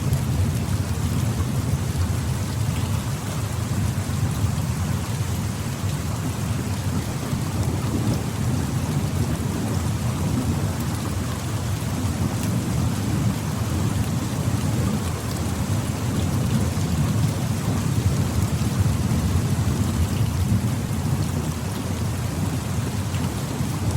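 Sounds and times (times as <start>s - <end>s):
rain falling through trees: 0.0s - 23.9s.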